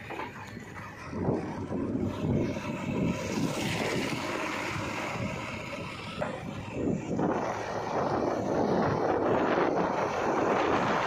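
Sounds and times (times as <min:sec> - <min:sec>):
diesel engine rumbling: 0:00.0 - 0:11.0
wind noise on microphone: 0:00.0 - 0:11.0.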